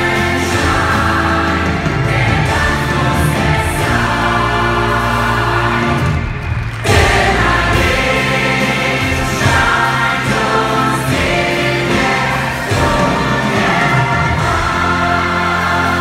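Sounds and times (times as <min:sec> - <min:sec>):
cast singing in chorus: 0:00.0 - 0:16.0
loud band backing: 0:00.0 - 0:16.0.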